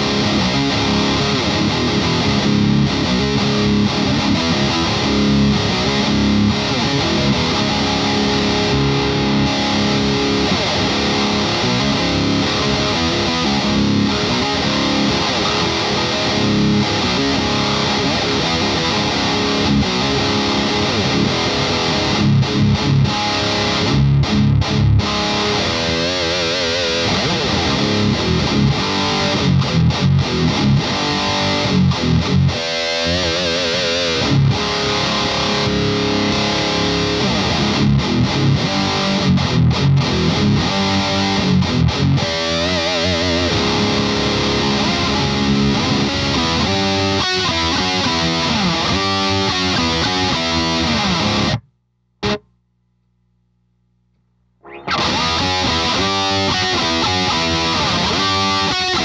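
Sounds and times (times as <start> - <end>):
distorted electric guitar riff: 0.0 - 52.6, 54.6 - 59.0.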